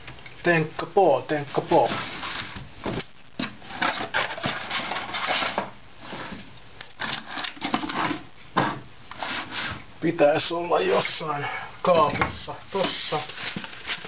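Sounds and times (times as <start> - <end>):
rummaging in a cupboard: 1.4 - 9.9, 10.8 - 14.0
scraping rustles: 1.4 - 9.9, 10.9 - 14.0.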